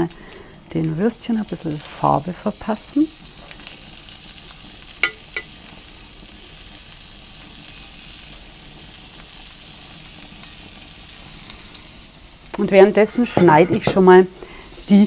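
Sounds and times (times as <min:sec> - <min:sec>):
sausages sizzling on griddle: 0:00.0 - 0:15.0.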